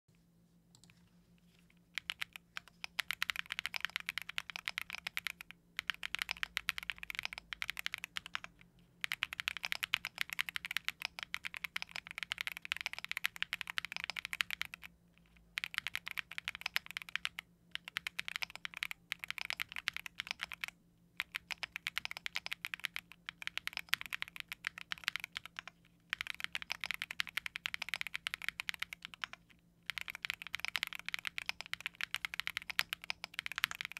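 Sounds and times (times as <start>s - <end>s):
mechanical keyboard typing: 2.0s - 14.9s, 15.6s - 33.9s.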